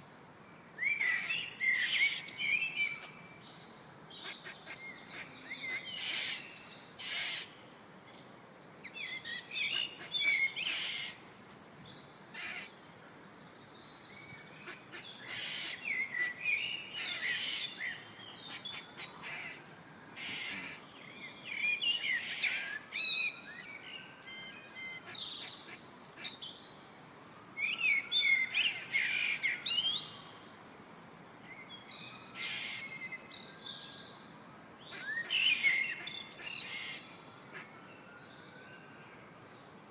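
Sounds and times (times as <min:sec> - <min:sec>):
faint steady hiss: 0:00.0 - 0:39.9
birds chirping and calling: 0:00.8 - 0:12.8, 0:13.4 - 0:26.8, 0:27.6 - 0:30.4, 0:31.6 - 0:38.3.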